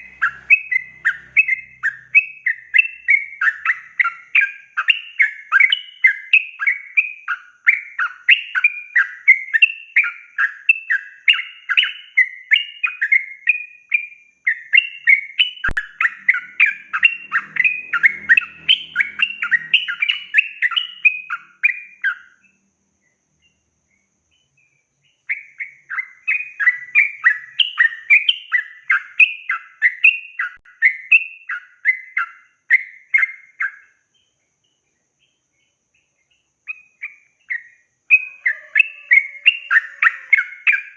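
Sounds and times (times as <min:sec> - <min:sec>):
bird singing chattering phrases: 0:00.0 - 0:13.4, 0:14.5 - 0:22.5, 0:24.4 - 0:33.9, 0:36.7 - 0:40.9.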